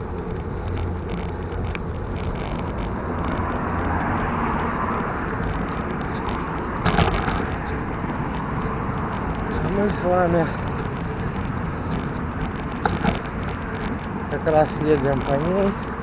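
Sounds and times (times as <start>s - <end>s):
bike rolling and wind noise: 0.0s - 16.0s.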